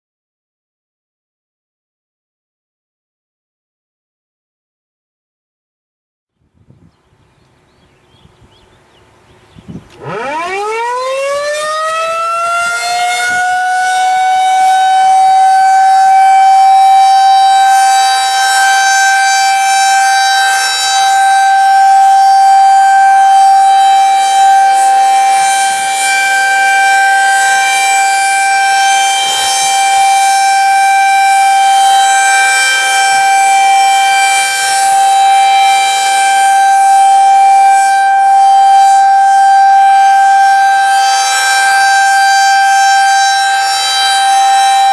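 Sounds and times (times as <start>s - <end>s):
warning siren: 8.7s - 44.9s.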